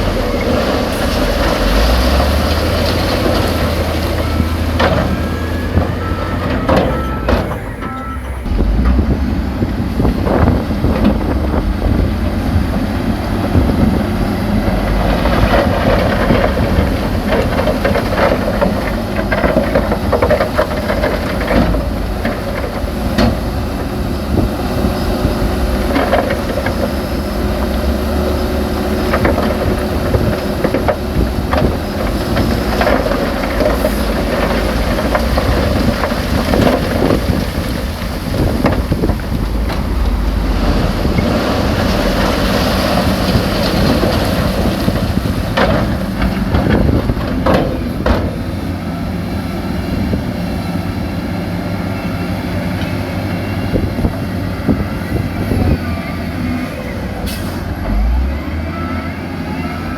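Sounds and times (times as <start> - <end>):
rock and steel clanking: 0.0 - 49.1
heavy machinery diesel engine: 0.0 - 59.9.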